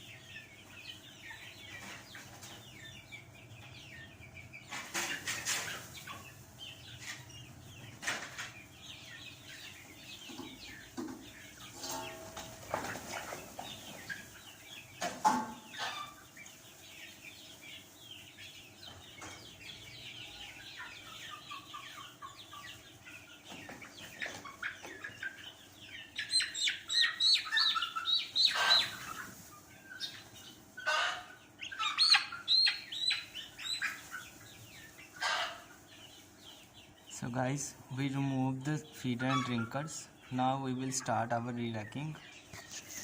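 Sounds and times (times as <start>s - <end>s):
chickens clucking: 0.0s - 43.0s.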